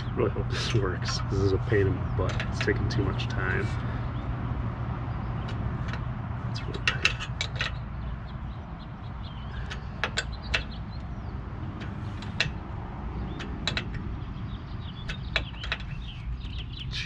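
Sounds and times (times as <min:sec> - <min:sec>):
sharp metal clicks: 0:00.0 - 0:04.3, 0:05.2 - 0:17.0
steady low rumble: 0:00.0 - 0:17.0.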